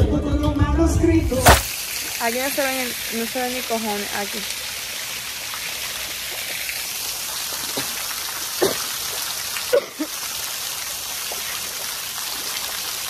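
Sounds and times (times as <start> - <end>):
running water: 1.3 - 13.0.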